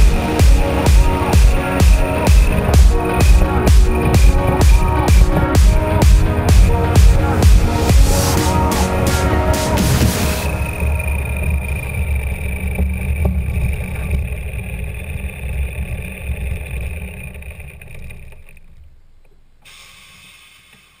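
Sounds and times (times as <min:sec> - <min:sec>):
radial aircraft engine rumbling: 0:00.0 - 0:21.0.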